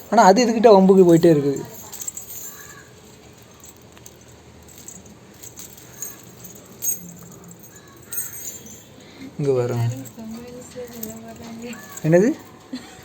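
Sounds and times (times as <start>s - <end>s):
dogs scuffling with jingling: 0.0s - 13.0s.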